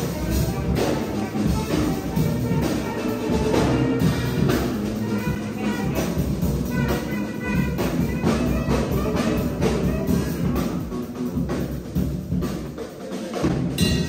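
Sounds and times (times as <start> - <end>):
saxophone: 0.0 - 13.8
drum kit: 0.0 - 14.0.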